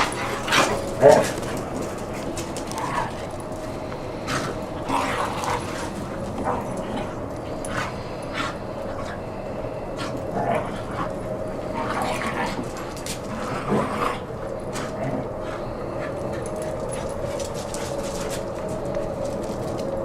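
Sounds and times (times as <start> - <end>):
dogs whining and yipping: 0.0 - 19.9
faint steady hum: 0.0 - 20.0.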